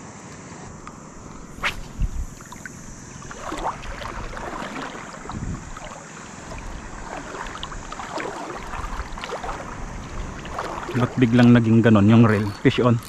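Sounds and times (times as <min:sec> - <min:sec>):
water lapping and sloshing: 0:01.2 - 0:12.4
wind on microphone: 0:01.3 - 0:12.7.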